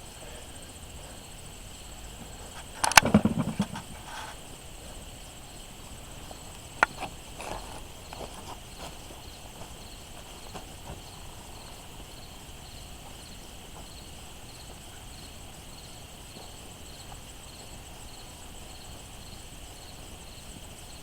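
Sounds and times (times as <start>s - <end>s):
insect chirping: 0.0s - 21.0s
insects trilling: 0.0s - 21.0s.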